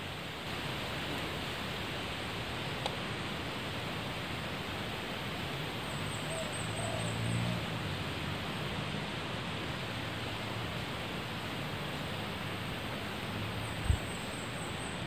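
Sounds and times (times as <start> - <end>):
steady forest hiss: 0.0 - 15.0.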